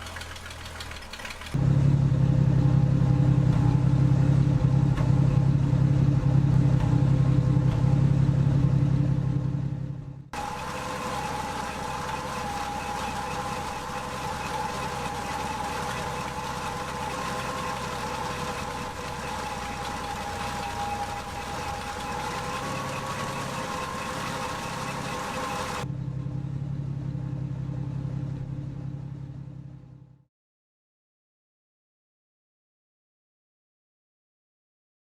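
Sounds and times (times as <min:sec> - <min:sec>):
pickup engine idling: 0:00.0 - 0:30.1.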